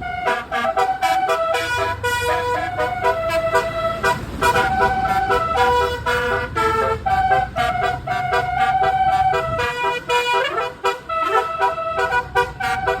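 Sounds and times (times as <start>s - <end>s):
low engine rumble: 0.0s - 13.0s
multi-tone bus horn melody: 0.0s - 13.0s.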